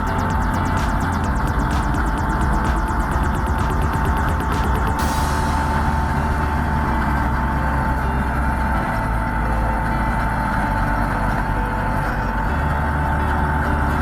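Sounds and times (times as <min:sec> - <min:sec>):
constant high whine: 0:00.0 - 0:14.0
heavy diesel engine running: 0:00.0 - 0:14.0.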